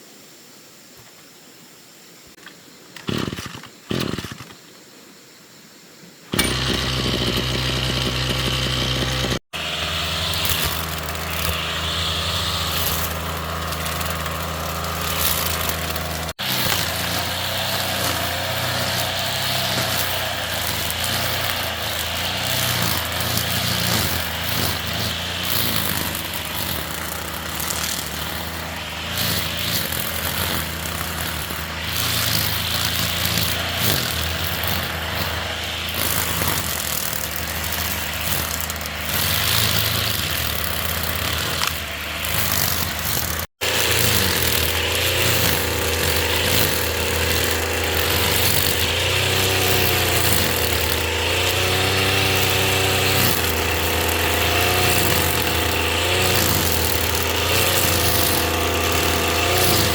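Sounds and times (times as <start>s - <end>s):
small engine running: 6.3s - 59.9s.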